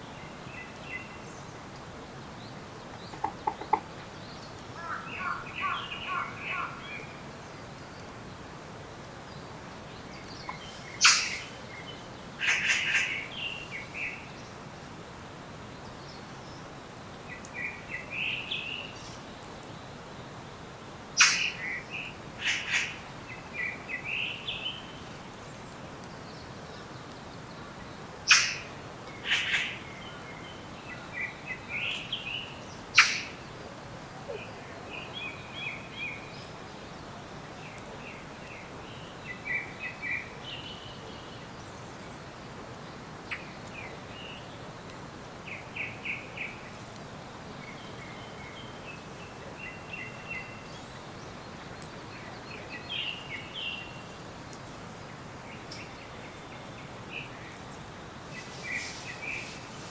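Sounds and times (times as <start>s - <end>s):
background hiss: 0.0s - 59.9s
songbirds calling and singing: 0.0s - 59.9s.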